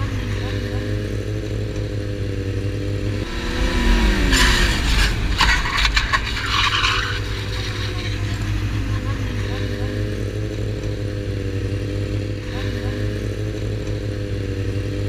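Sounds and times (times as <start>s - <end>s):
metal scraping along asphalt: 0.0s - 13.7s
motorcycle engine running: 0.0s - 15.0s.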